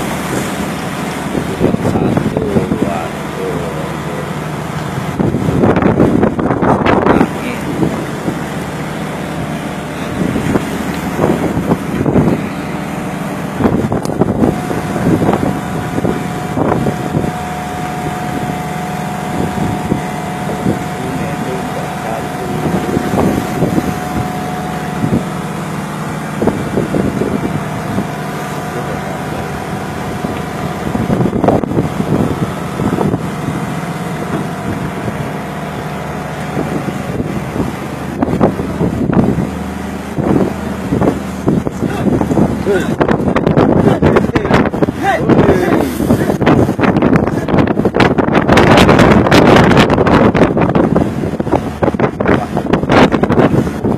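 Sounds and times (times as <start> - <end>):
boat machinery humming: 0.0 - 53.9
storm wind and waves surging: 0.0 - 53.9
thin steady whine: 0.0 - 53.9.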